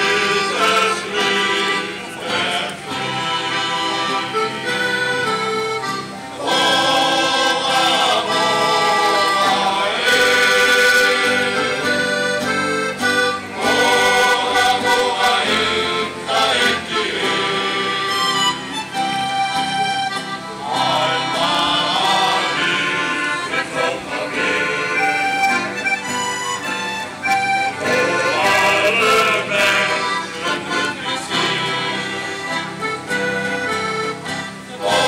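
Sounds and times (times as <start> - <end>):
men's choir singing: 0.0 - 18.5, 20.6 - 25.6, 27.6 - 35.0
accordion: 0.0 - 35.0.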